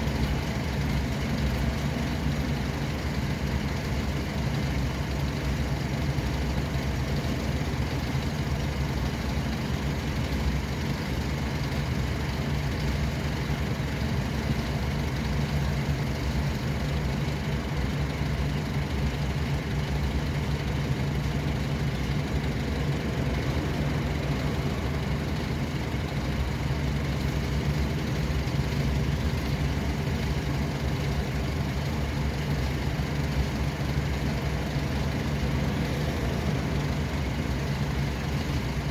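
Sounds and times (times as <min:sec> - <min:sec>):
road noise: 0:00.0 - 0:38.9
vehicle engine drone: 0:00.0 - 0:38.9.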